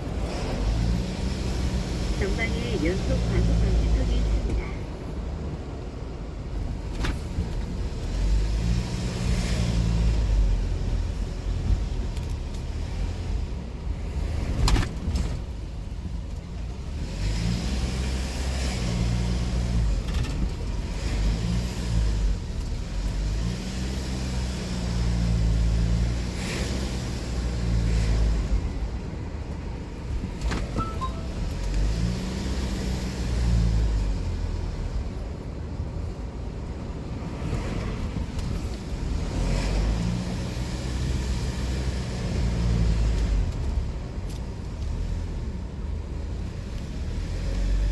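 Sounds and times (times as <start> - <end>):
car engine accelerating: 0.0 - 5.4, 6.5 - 35.2, 37.2 - 47.9.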